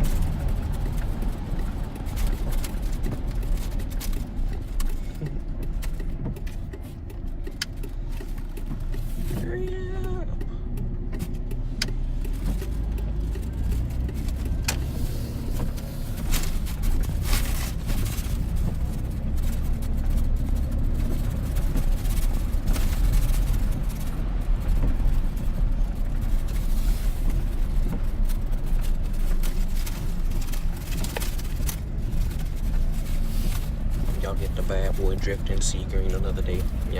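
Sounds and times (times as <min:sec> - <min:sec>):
engine and tyre rumble: 0:00.0 - 0:36.9.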